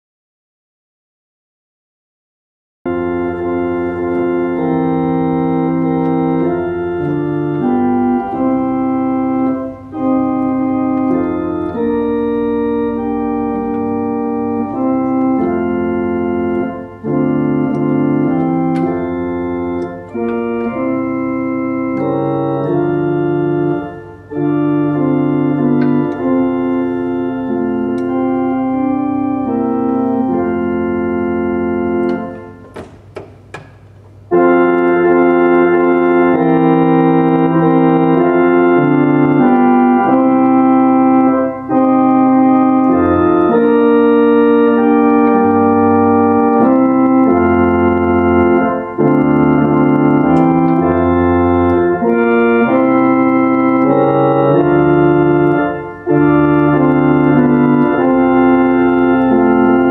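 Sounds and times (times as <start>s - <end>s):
organ playing sustained chords: 2.9s - 59.9s.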